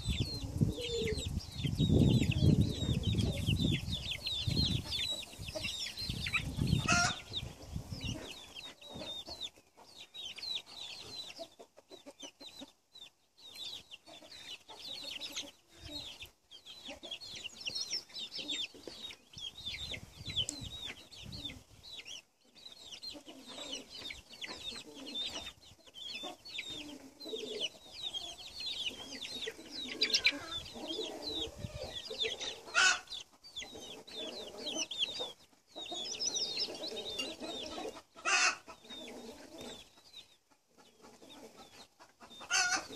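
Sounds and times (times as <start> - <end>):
hens clucking: 0.0 - 12.8, 14.0 - 42.9
chicks peeping: 0.0 - 42.9.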